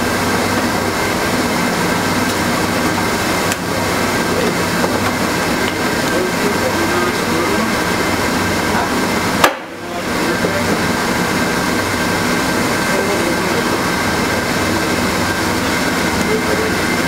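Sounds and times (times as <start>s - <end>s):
hot air blowers rushing: 0.0s - 17.0s.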